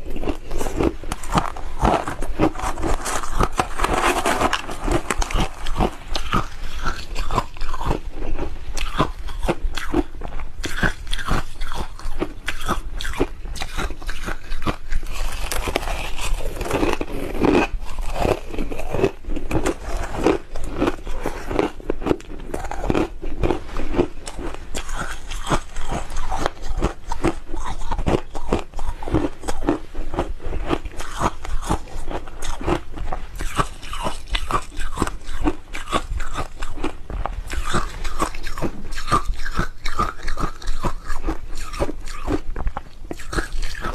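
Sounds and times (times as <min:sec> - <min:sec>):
crunching ice: 0:00.0 - 0:32.8, 0:33.4 - 0:43.9.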